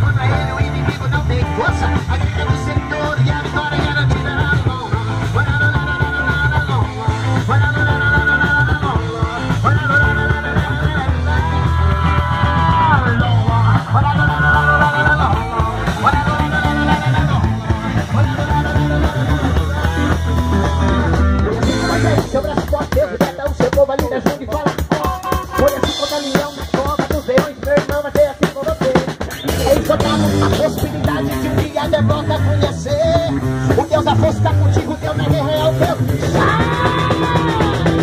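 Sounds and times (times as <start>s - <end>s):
heavy steady bass line: 0.0s - 38.0s
live band with electric guitars: 0.0s - 38.0s.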